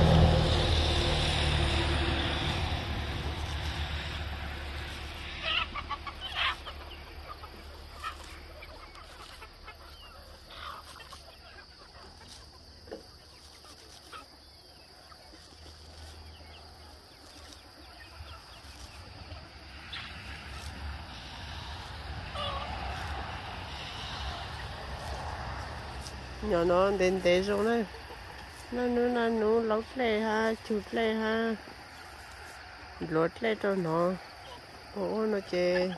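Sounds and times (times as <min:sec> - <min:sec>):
chicken calls: 0:00.0 - 0:35.9
chickens clucking: 0:00.0 - 0:35.9.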